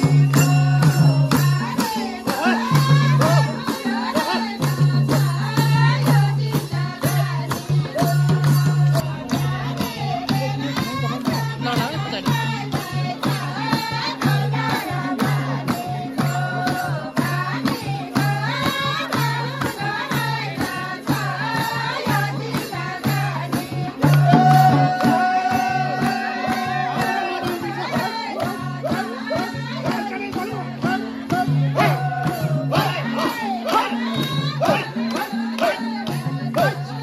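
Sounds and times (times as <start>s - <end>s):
person singing folk song: 0.0s - 37.0s
rattling percussion beat: 0.0s - 37.0s.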